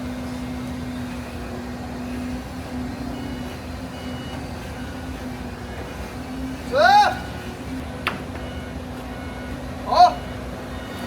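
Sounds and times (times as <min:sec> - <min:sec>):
heavy machinery engine rumbling: 0:00.0 - 0:11.0.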